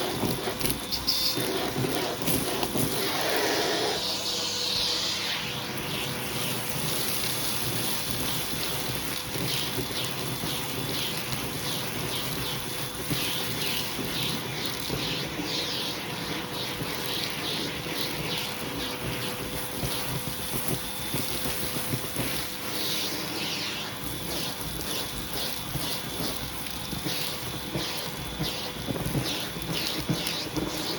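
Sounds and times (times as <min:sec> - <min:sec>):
vacuum cleaner running: 0:00.0 - 0:30.9
vacuum tool swishing over rug: 0:00.0 - 0:30.9.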